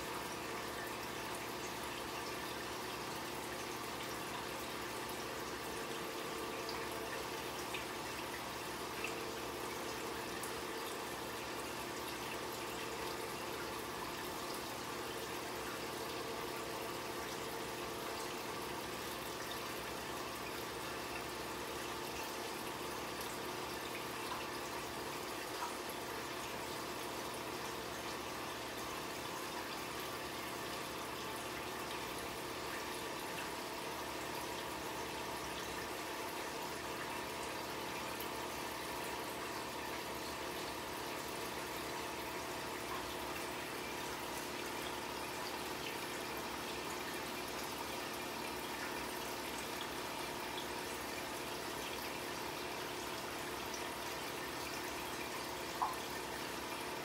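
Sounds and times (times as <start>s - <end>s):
aquarium water trickling: 0.0s - 57.0s
faint steady hum: 0.0s - 57.0s.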